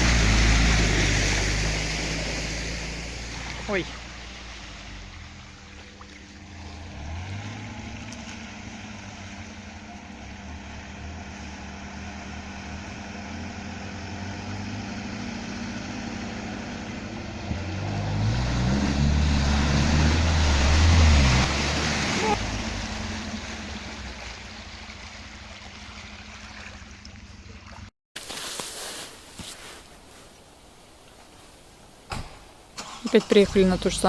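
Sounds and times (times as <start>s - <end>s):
off-road vehicle engine running: 0.0s - 27.7s, 32.8s - 34.0s.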